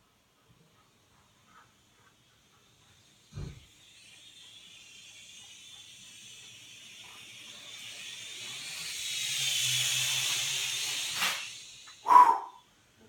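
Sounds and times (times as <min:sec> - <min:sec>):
quadcopter motors whining: 0:00.9 - 0:13.0.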